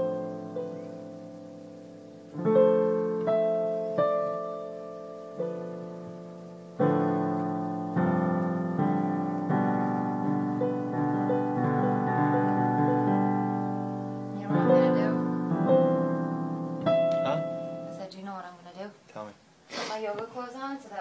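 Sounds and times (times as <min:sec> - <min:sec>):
piano chords: 0:00.0 - 0:18.4.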